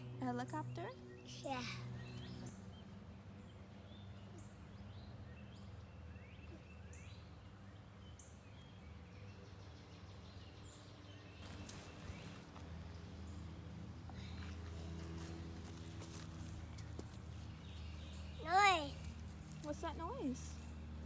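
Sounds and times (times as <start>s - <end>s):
distant helicopter drone: 0.0s - 7.7s, 8.6s - 21.0s
small birds chirping: 0.0s - 21.0s.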